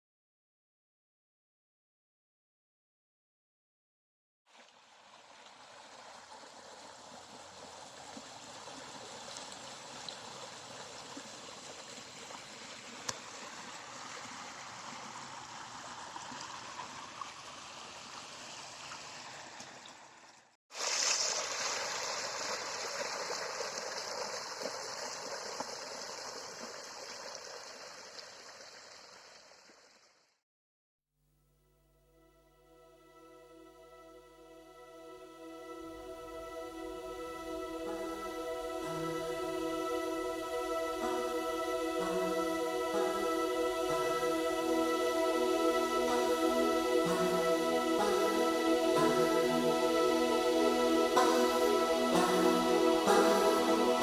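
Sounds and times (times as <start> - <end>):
stream trickling: 4.5 - 30.2, 34.8 - 54.0.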